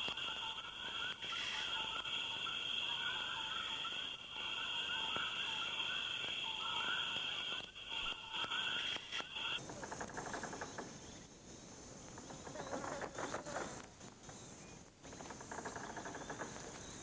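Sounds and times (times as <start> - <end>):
frogs calling: 0.0 - 17.0
insects trilling: 0.0 - 17.0.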